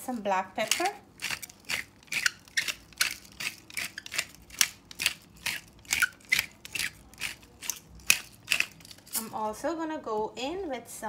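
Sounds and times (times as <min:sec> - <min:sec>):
pepper grinder cracking peppercorns: 0:00.0 - 0:09.4.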